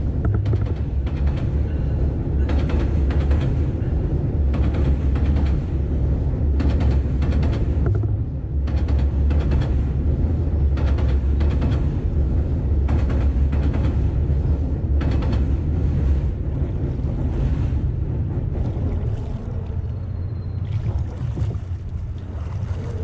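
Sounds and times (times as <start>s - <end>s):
train wheels clattering: 0.0s - 18.7s
train rumbling over steel bridge: 0.0s - 23.0s.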